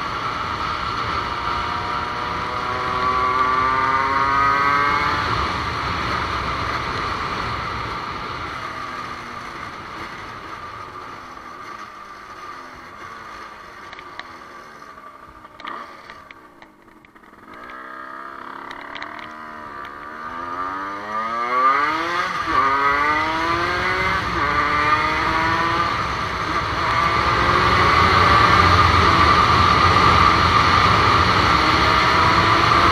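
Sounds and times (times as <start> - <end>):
dirt bike engine accelerating: 0.0 - 32.9.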